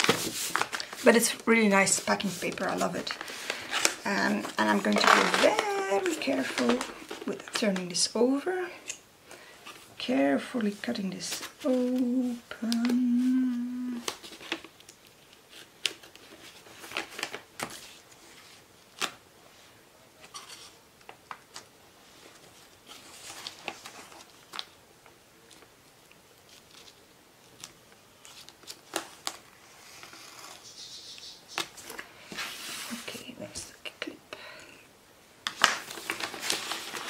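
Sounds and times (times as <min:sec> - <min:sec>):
paper rustling: 0:00.0 - 0:07.9, 0:10.5 - 0:19.2, 0:20.2 - 0:30.7, 0:31.5 - 0:33.4, 0:35.4 - 0:37.0.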